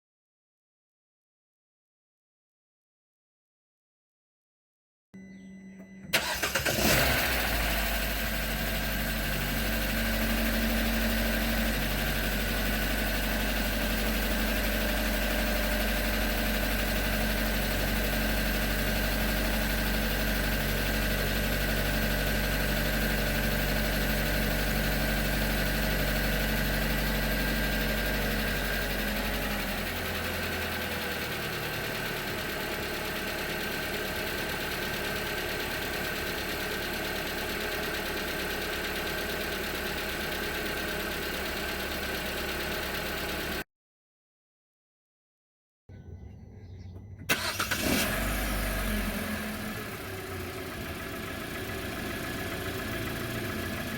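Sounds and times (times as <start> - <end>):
car engine idling: 6.1 - 43.6, 46.6 - 53.9.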